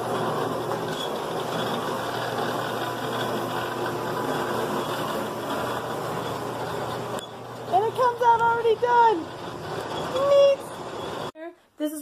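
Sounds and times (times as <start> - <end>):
gutter machine running: 0.0 - 11.3.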